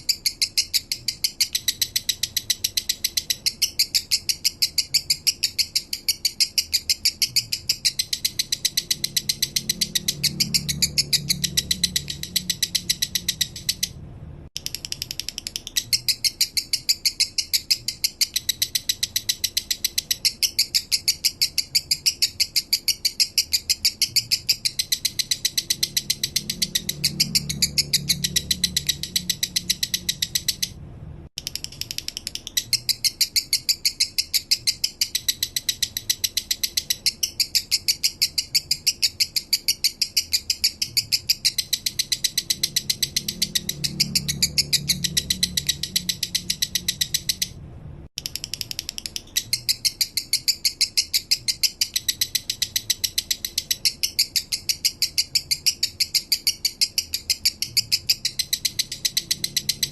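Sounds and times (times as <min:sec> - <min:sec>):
lovebird chirping song: 0:00.0 - 0:30.8, 0:31.4 - 0:47.6, 0:48.2 - 0:59.9.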